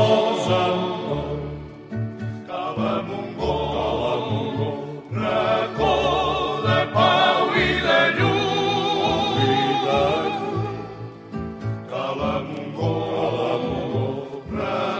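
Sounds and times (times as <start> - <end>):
vocal group singing in harmony: 0.0 - 14.9.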